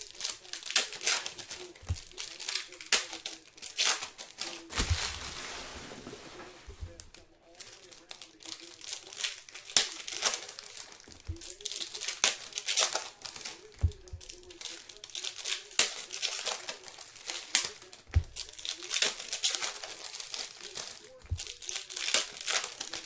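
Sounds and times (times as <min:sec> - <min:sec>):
card pack wrappers crinkling: 0:00.0 - 0:23.0.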